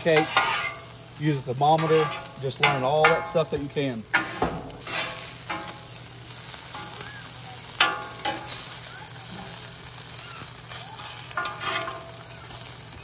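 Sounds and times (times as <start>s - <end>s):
metal spatula scraping griddle: 0.0s - 12.8s
tacos sizzling on a griddle: 0.0s - 13.0s.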